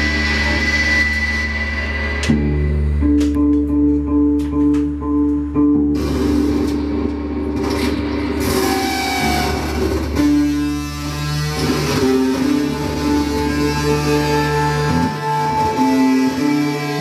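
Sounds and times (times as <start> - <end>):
higher sustained notes: 0.0 - 17.0
low drone tones: 0.0 - 17.0.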